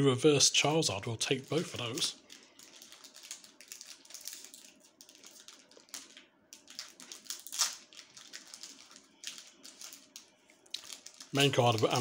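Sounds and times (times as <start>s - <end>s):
foil wrapper crinkling: 1.2s - 12.0s.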